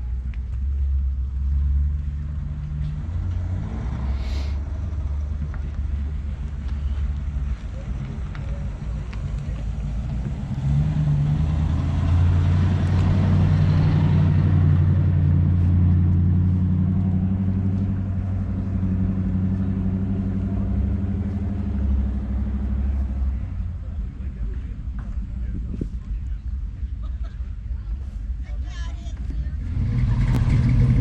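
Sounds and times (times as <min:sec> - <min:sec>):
car engine running slowly: 0:00.0 - 0:31.0.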